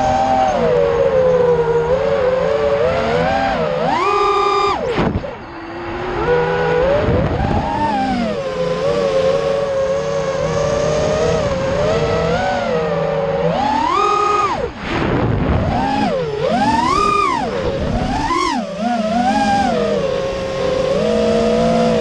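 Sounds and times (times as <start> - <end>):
drone motors whining: 0.0 - 22.0
rough wind noise: 0.0 - 22.0.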